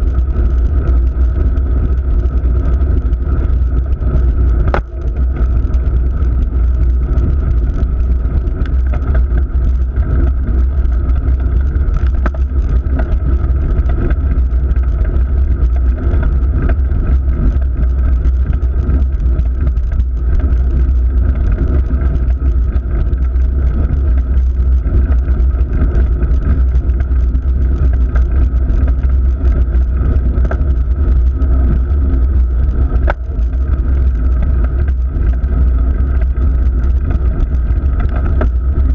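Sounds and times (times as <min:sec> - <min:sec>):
bike tyres rumbling on asphalt: 0:00.0 - 0:38.9
wind on microphone: 0:00.0 - 0:38.9.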